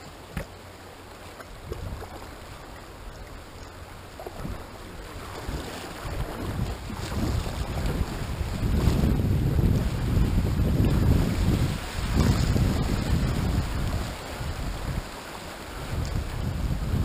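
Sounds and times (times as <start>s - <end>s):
paddle splashing in water: 0.0s - 16.8s
fast-running creek water: 0.0s - 17.0s
wind on microphone: 1.5s - 17.0s.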